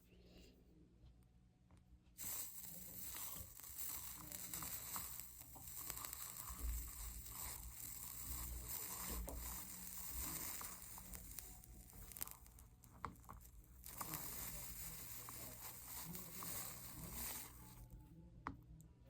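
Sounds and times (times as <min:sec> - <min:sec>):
solder flux sizzling: 0:02.1 - 0:18.0.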